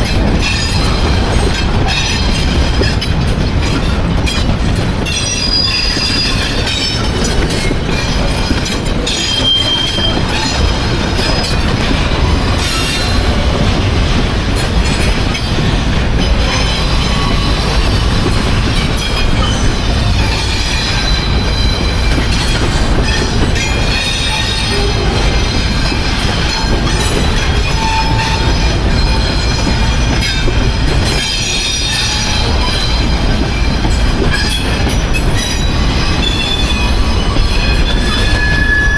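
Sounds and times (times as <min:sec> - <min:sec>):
wheel squeal: 0:00.0 - 0:13.9, 0:15.3 - 0:38.9
train wheels rumbling on rail: 0:00.0 - 0:38.9.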